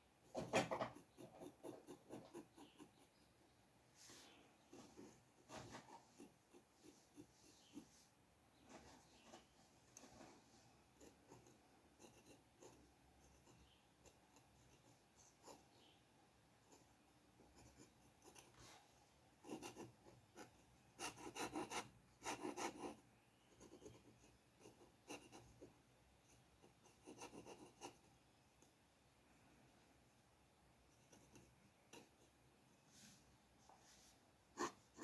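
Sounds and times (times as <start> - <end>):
pencil strokes scratching on paper: 0.4 - 3.2, 4.0 - 16.0, 16.7 - 28.1, 31.0 - 35.0.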